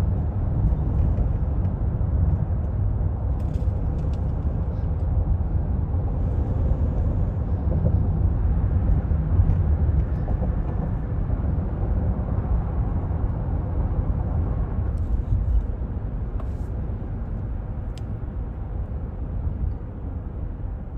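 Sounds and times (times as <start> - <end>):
road and tyre rumble: 0.0 - 20.9.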